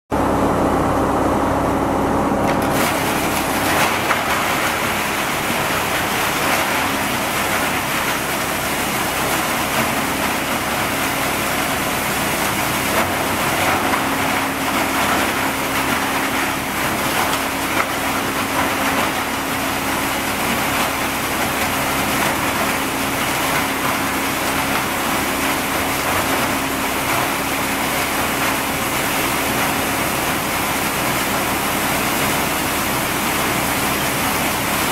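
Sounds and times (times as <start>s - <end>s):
crusher machine humming: 0.2s - 34.9s.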